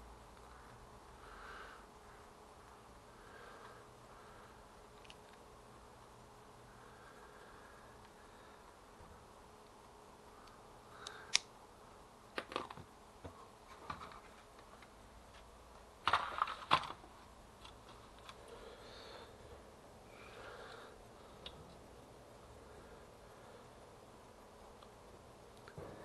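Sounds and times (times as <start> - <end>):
soft rustling of parts: 0.0 - 26.0.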